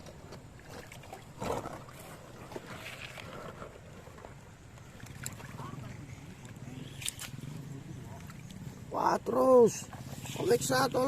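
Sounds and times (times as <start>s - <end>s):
river water running and sloshing: 0.0s - 11.0s.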